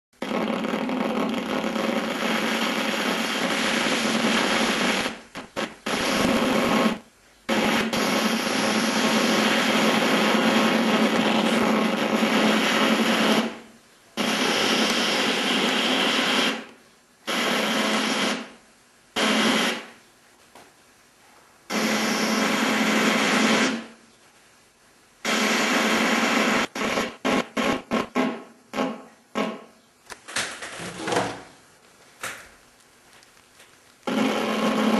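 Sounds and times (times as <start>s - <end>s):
tv static hiss and buzz: 0.2s - 34.9s.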